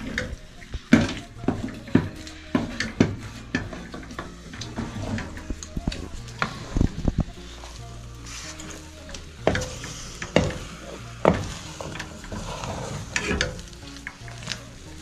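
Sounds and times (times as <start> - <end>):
wooden stick stirring in metal pot: 0.0 - 15.0.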